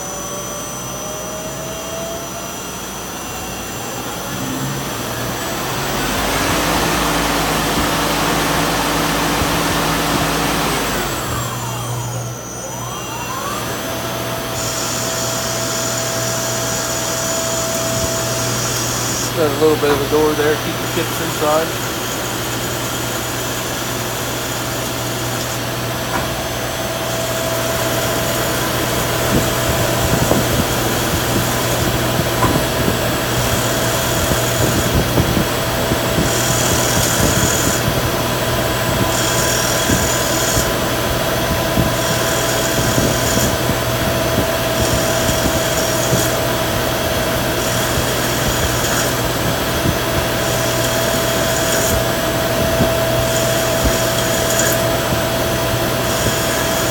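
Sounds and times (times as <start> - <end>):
lathe machine hum: 0.0 - 56.9.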